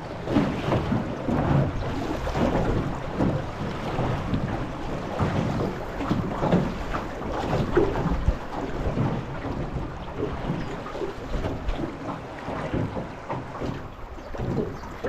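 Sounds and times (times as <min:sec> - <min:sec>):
river water rushing and splashing: 0:00.0 - 0:15.0
wind buffeting microphone: 0:00.0 - 0:15.0.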